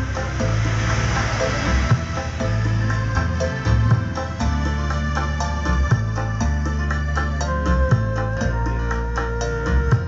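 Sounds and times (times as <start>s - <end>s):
arranger keyboard music: 0.0s - 10.0s.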